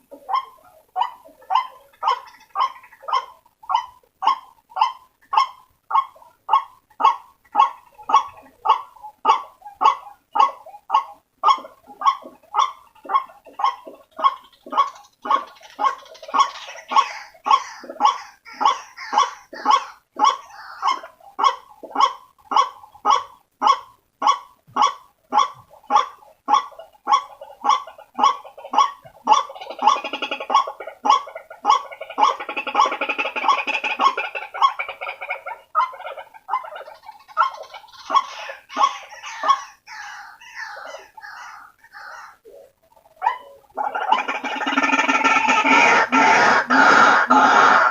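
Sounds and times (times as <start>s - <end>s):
waterhen calling: 0.0s - 47.9s.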